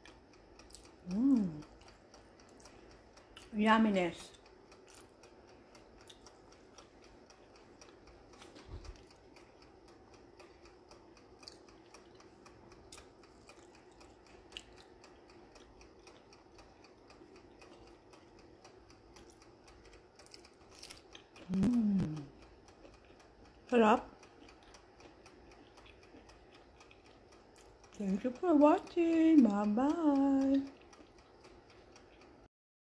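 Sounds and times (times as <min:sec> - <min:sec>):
faint even ticking: 0:00.0 - 0:32.5
faint steady hum: 0:00.0 - 0:32.5.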